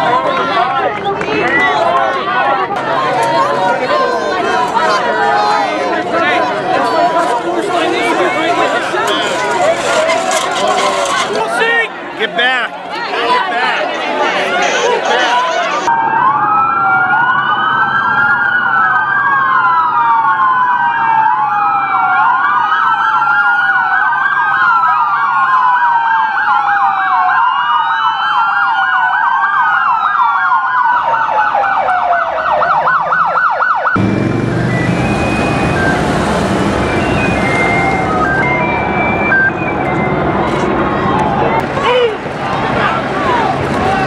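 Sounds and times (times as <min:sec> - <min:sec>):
street traffic noise: 0:00.0 - 0:27.4, 0:30.9 - 0:44.0
police sirens wailing: 0:00.0 - 0:44.0.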